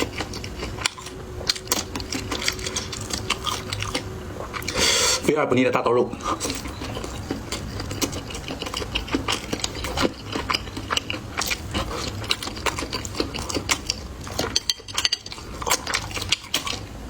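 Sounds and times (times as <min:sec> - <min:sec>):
close chewing with mouth clicks: 0:00.0 - 0:05.3, 0:06.1 - 0:17.0.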